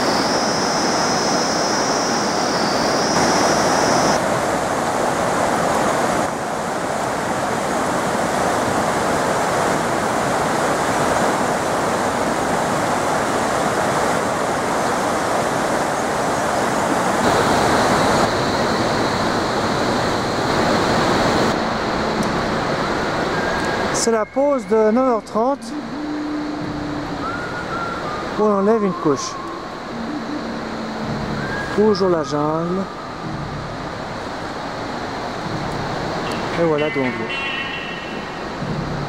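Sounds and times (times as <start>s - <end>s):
river water rushing over rocks: 0.0s - 39.0s.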